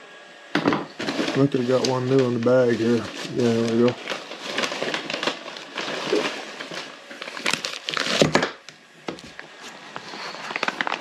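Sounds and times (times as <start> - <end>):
bag crinkling and rustling: 1.0 - 8.5, 9.2 - 11.0.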